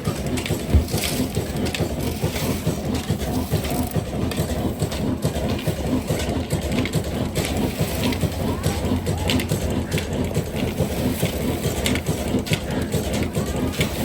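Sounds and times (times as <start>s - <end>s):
diesel engine clattering: 0.0s - 14.0s.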